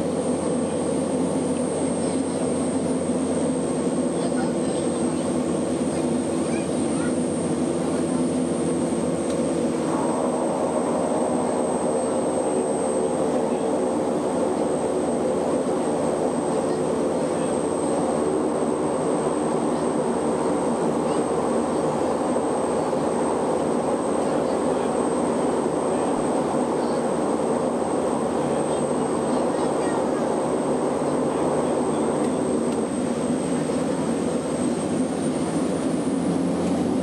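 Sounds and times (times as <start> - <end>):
airship engines droning: 0.0 - 37.0.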